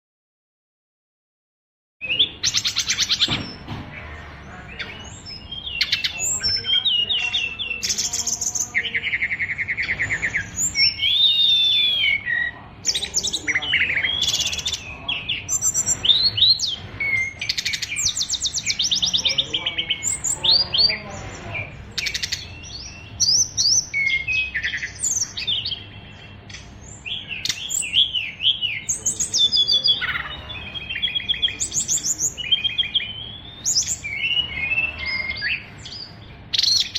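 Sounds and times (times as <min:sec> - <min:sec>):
songbird singing: 0:02.0 - 0:36.9.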